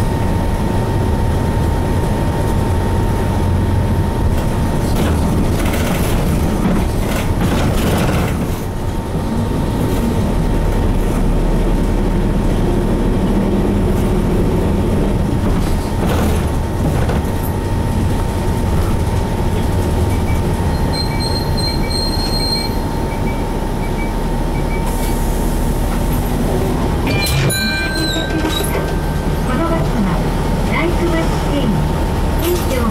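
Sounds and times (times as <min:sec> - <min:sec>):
bus diesel engine droning: 0:00.0 - 0:32.9.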